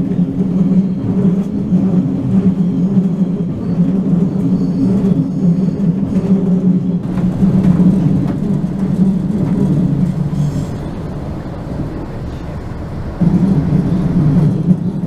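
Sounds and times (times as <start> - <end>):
train engine drone: 0.0 - 15.0
train running gear rumble: 0.0 - 15.0.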